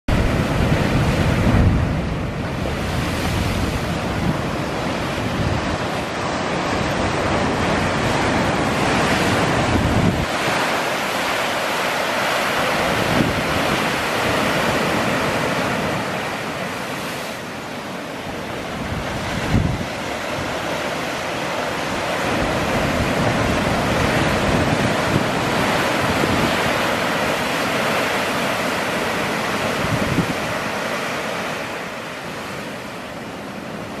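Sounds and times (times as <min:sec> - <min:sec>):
wind buffeting microphone: 0:00.1 - 0:17.1, 0:18.2 - 0:32.6
ocean surf breaking: 0:00.1 - 0:34.0.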